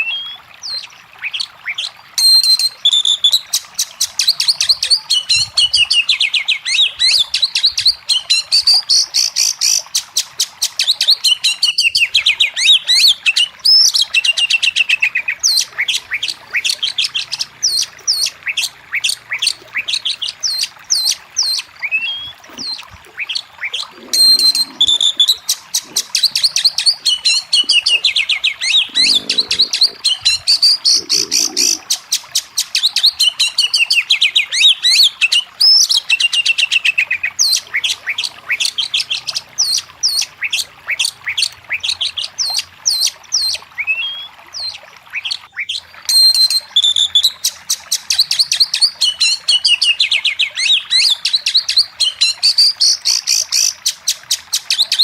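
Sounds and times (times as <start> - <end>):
songbird singing: 0.0 - 53.4.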